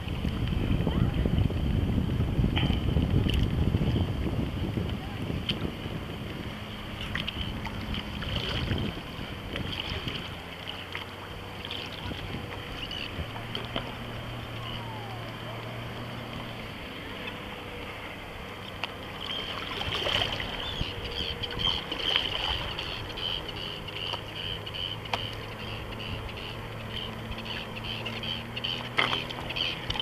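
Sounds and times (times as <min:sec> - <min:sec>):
boat engine running: 0:00.0 - 0:30.0
water on choppy sea: 0:00.0 - 0:30.0
wind: 0:00.0 - 0:30.0.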